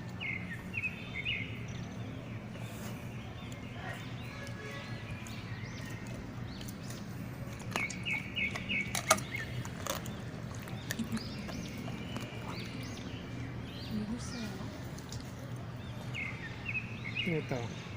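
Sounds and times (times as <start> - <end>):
small birds chirping: 0.0 - 17.9
steady low hum: 0.0 - 17.9.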